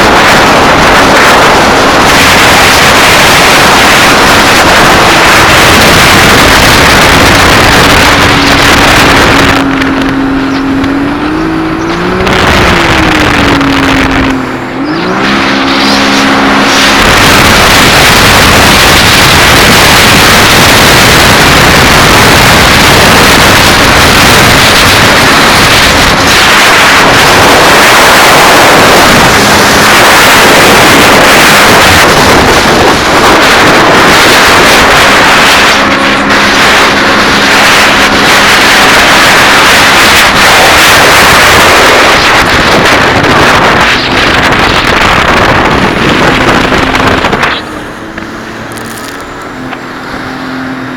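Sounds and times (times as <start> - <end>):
jet ski engine: 0.0 - 50.9
water rushing: 0.0 - 50.9
wind buffeting microphone: 0.0 - 50.9.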